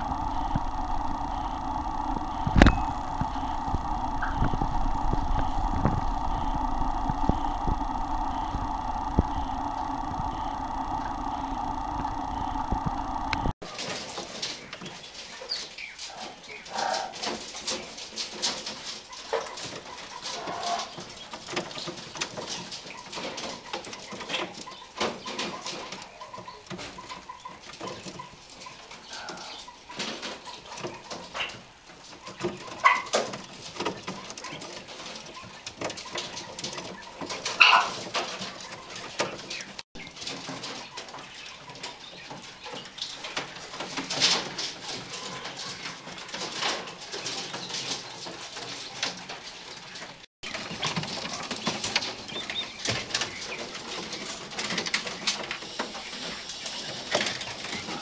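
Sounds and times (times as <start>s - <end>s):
quail chicks peeping: 0.0s - 58.0s.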